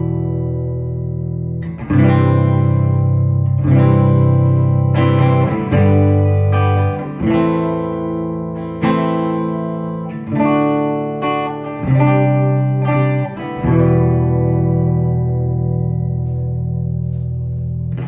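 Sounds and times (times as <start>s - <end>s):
electric guitar chords ringing: 0.0s - 18.0s.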